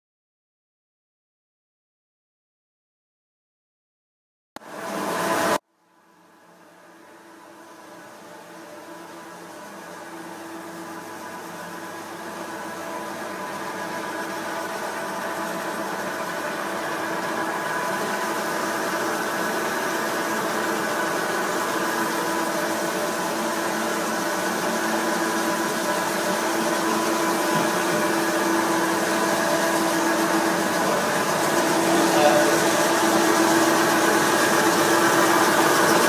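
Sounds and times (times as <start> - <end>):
floor grinder motor hum: 4.6 - 5.6, 6.6 - 36.0.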